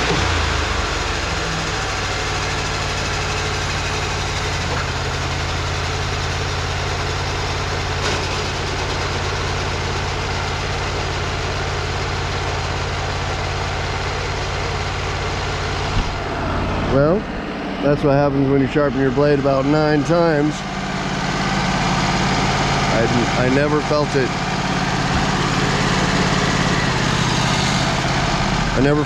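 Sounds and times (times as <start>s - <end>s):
sawmill engine idling: 0.0s - 29.0s.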